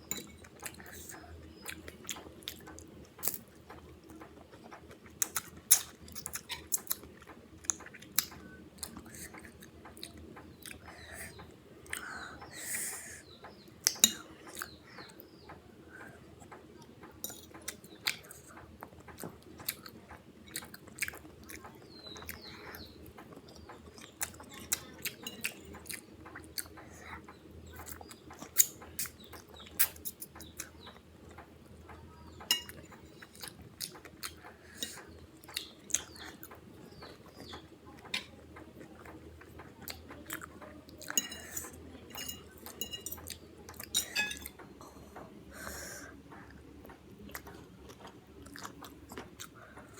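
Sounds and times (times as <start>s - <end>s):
wet chewing and lip smacking: 0.2s - 44.7s, 46.3s - 49.9s.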